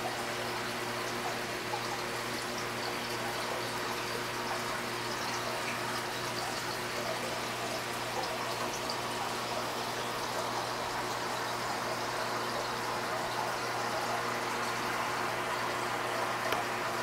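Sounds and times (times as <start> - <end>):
pump humming: 0.0 - 17.0
water rushing and trickling: 0.0 - 17.0.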